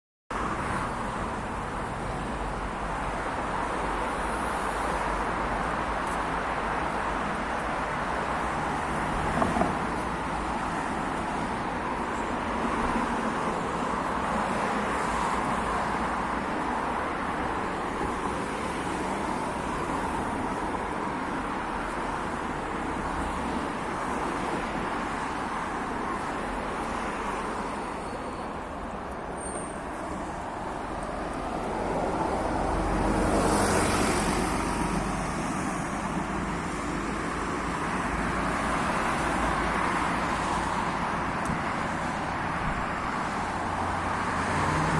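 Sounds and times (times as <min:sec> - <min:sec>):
road traffic passing: 0:00.3 - 0:44.9.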